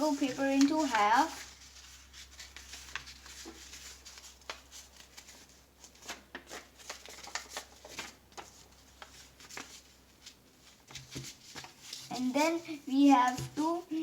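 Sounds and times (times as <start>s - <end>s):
paper rustling: 0.0s - 14.0s.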